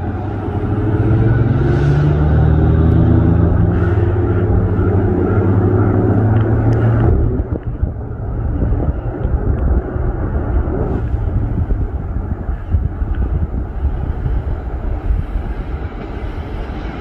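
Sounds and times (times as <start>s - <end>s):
humming drone: 0.0s - 17.0s
train wheels rumbling on rail: 0.0s - 17.0s
wind on microphone: 0.0s - 17.0s.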